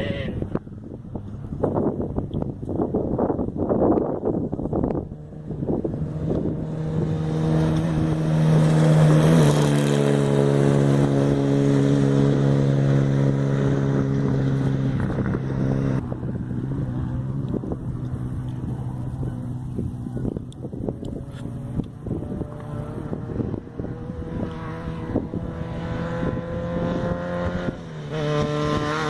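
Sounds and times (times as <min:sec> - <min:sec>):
race vehicle engine running hard: 0:00.0 - 0:29.0
wind on microphone: 0:00.0 - 0:29.0.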